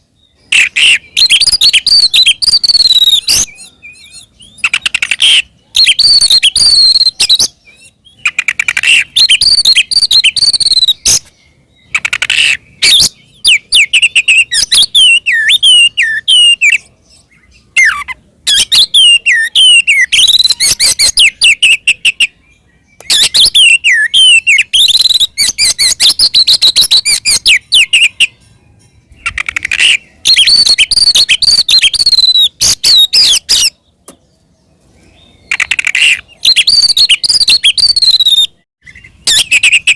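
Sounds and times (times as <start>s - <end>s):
songbird chattering and whistling: 0.0s - 34.0s, 35.0s - 39.9s.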